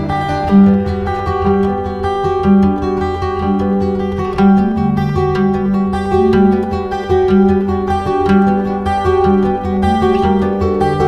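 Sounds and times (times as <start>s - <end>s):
low bass line: 0.0s - 11.0s
plucked string notes: 0.0s - 11.0s.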